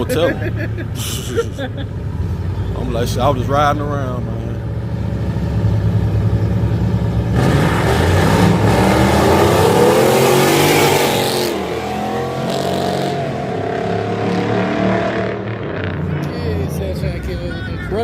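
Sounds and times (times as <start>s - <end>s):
engine accelerating hard: 2.1s - 17.2s.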